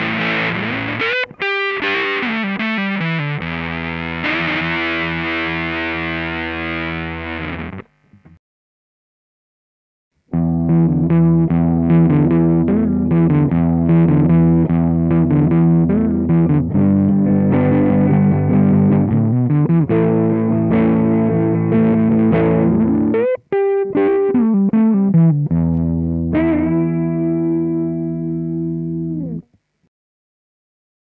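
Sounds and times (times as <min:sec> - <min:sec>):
fuzz electric guitar riff: 0:00.0 - 0:08.4, 0:10.3 - 0:29.5.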